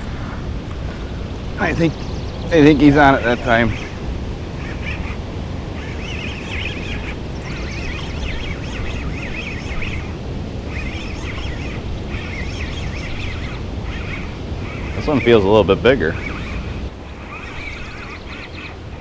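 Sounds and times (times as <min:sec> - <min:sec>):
wind on microphone: 0:00.0 - 0:19.0
high chirping bird calls: 0:01.0 - 0:19.0.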